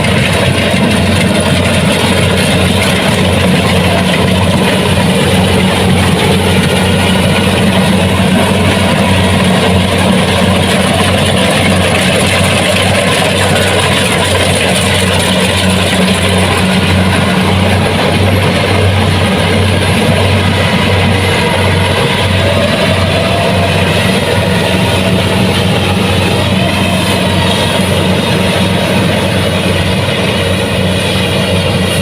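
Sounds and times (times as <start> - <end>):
combine harvester engine: 0.0 - 32.0
mechanical rush: 0.0 - 32.0.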